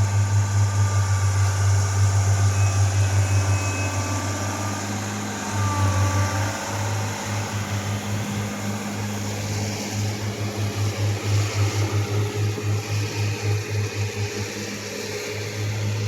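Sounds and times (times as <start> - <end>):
engine pulsing hum: 0.0 - 16.0.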